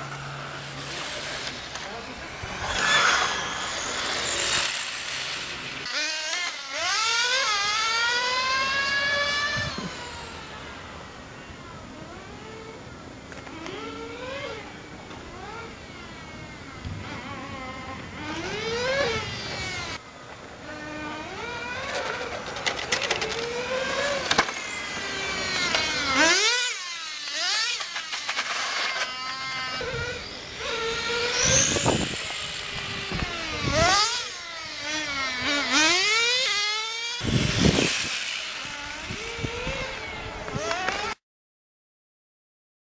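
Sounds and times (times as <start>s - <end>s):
rc car motors whining: 0.0s - 41.2s.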